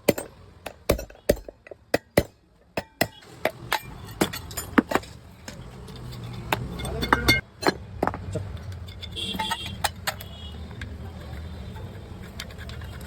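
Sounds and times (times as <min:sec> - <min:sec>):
hand tools tapping on jar: 0:00.0 - 0:13.0.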